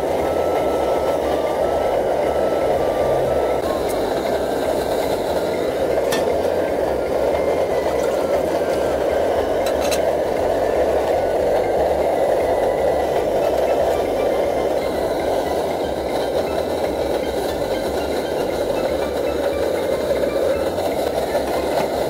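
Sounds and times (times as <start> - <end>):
stove roaring: 0.0 - 22.0.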